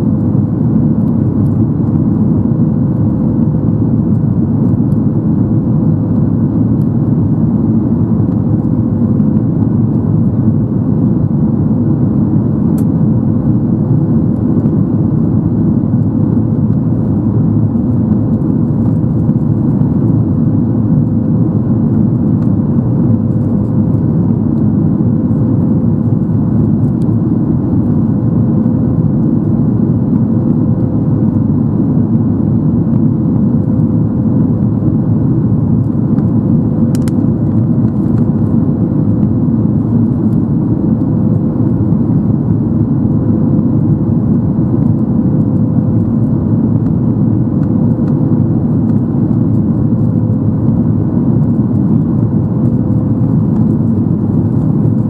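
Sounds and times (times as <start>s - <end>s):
faint steady hum: 0.0s - 55.0s
jet engines running: 0.0s - 55.0s.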